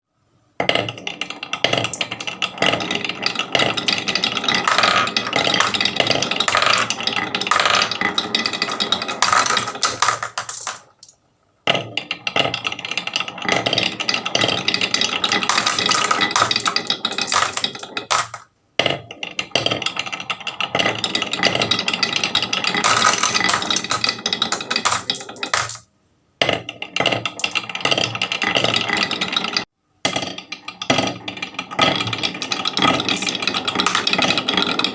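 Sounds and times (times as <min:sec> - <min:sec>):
marbles rattling down wooden run: 0:00.7 - 0:11.1, 0:11.9 - 0:18.5, 0:19.3 - 0:25.8, 0:27.0 - 0:29.6, 0:30.2 - 0:34.9.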